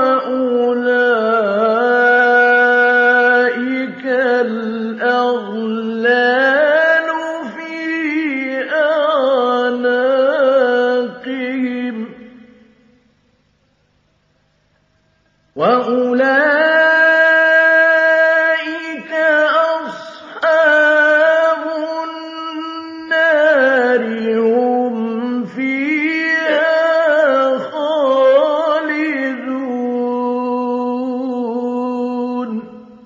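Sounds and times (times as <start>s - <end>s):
man chanting melodically: 0.0s - 12.7s, 15.6s - 33.0s.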